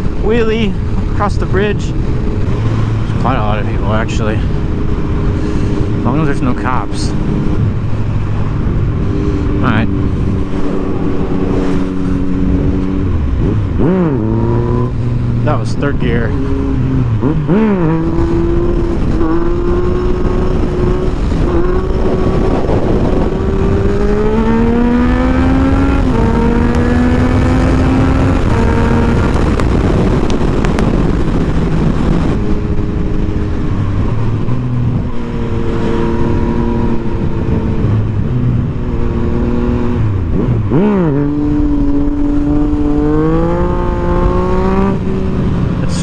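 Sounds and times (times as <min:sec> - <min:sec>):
motorcycle engine accelerating: 0:00.0 - 0:46.0
wind rush: 0:00.0 - 0:46.0.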